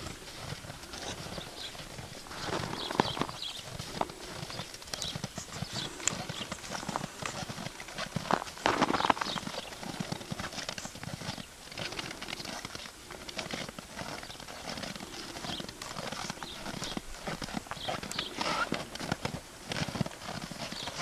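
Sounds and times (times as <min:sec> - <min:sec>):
horse hoofbeats on snow: 0:00.0 - 0:21.0.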